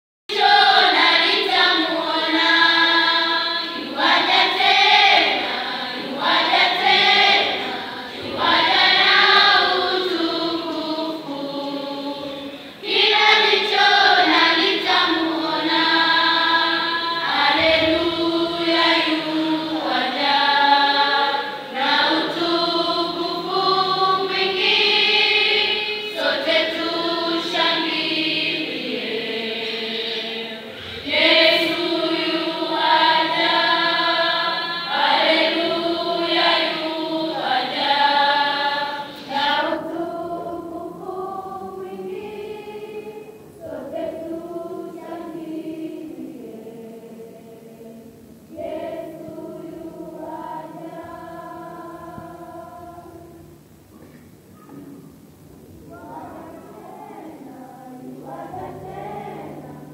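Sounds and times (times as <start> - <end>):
children's choir singing: 0.3 - 59.9.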